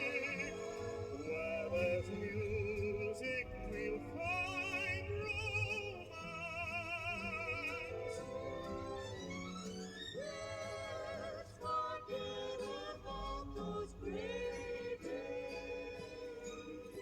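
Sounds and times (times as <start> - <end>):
instrumental accompaniment: 0.0 - 17.0
operatic singer on a record: 0.0 - 17.0.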